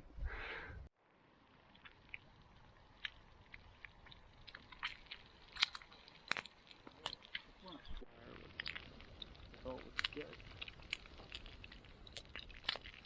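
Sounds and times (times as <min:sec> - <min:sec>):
wood fire crackling: 0:00.3 - 0:13.0
frying pan sizzling: 0:01.4 - 0:13.0.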